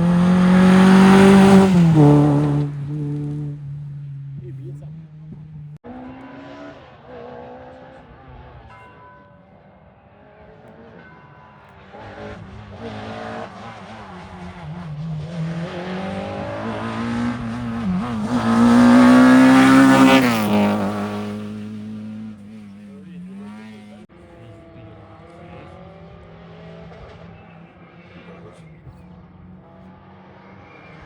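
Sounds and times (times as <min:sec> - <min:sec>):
rally car engine revving past: 0:00.0 - 0:08.7, 0:11.8 - 0:31.0.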